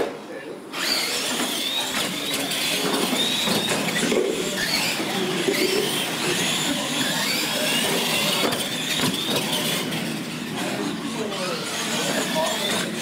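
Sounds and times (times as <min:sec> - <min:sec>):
toy truck electric motors whining: 0:00.7 - 0:13.0.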